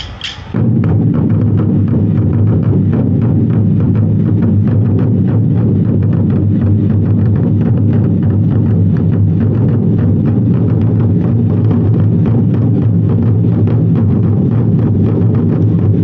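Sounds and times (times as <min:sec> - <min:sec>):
large barrel drums beating: 0:00.0 - 0:16.0.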